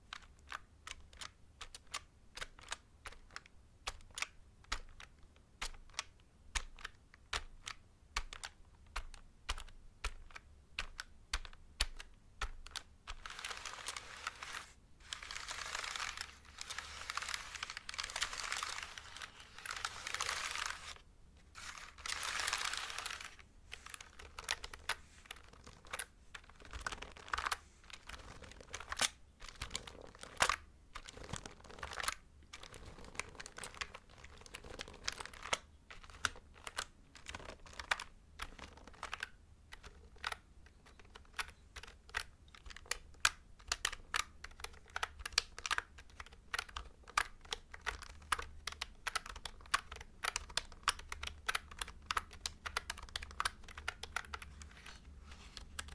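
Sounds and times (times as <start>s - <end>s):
keyboard typing: 6.8s - 21.0s, 21.6s - 55.9s.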